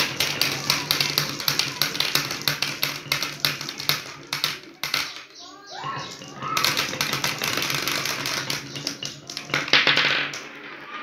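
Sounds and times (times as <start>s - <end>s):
marbles clattering on wooden tracks: 0.0s - 11.0s.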